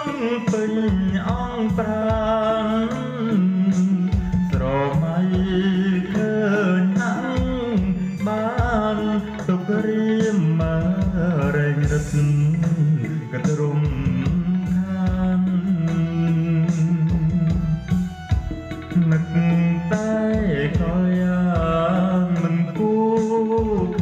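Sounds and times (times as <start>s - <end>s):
instrumental backing music: 0.0s - 24.0s
man singing into a microphone: 0.0s - 24.0s.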